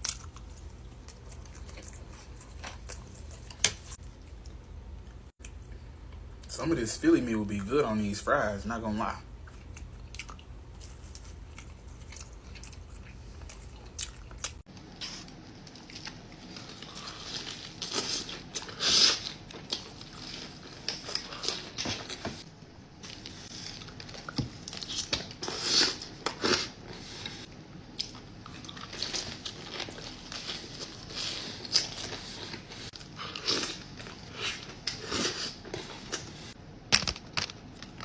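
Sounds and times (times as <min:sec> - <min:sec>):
person chewing crunchy food: 0:00.0 - 0:06.2, 0:09.4 - 0:36.6.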